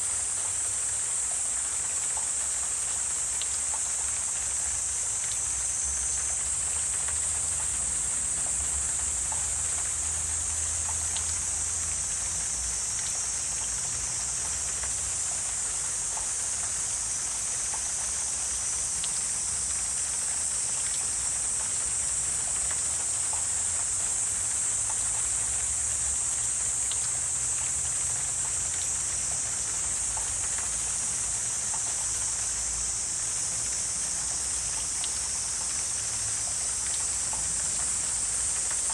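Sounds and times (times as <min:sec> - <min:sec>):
insects chorus: 0:00.0 - 0:38.9
faint clicks or drips: 0:00.3 - 0:38.9.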